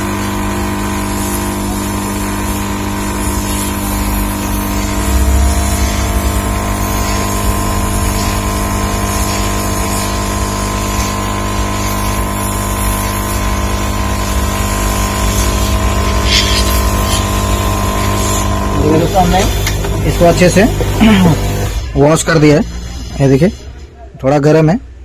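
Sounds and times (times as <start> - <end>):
hot air station blowing and humming: 0.0 - 23.9.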